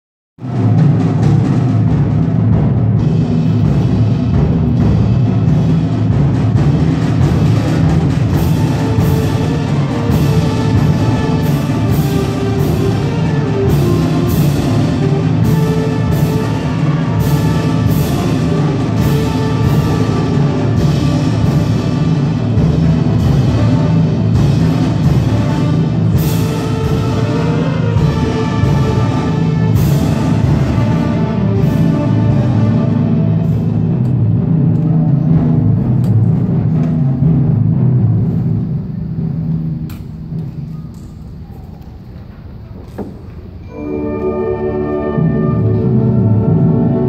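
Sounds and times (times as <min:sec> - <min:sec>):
concert band playing: 0:00.4 - 0:40.7, 0:43.6 - 0:47.0
sharp percussion strikes: 0:00.4 - 0:41.6
timpani: 0:00.4 - 0:47.0.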